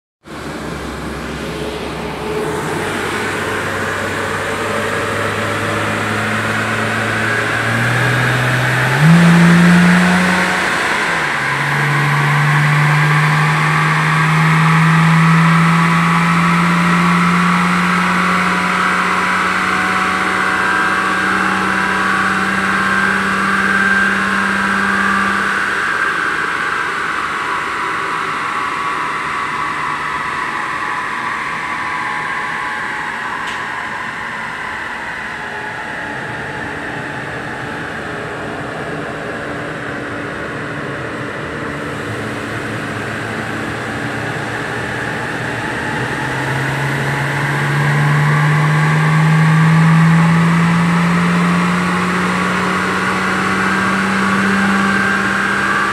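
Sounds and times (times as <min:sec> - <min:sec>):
car engine revving under load: 0:00.2 - 0:55.9.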